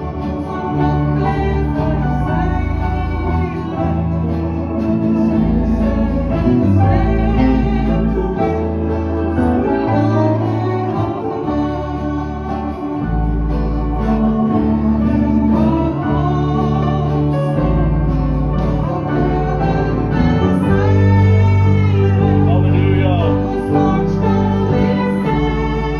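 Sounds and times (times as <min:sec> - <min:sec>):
accordion: 0:00.0 - 0:25.9
acoustic guitar: 0:00.0 - 0:25.9
electric guitar: 0:00.0 - 0:25.9
woman singing: 0:00.0 - 0:25.9.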